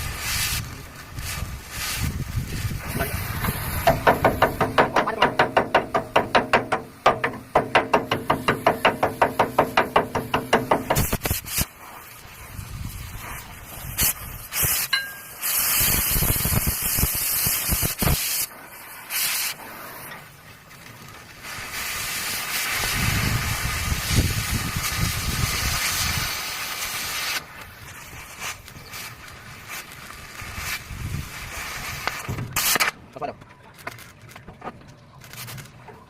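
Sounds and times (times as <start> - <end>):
loud hissing bursts: 0.0 - 20.2, 21.4 - 32.9.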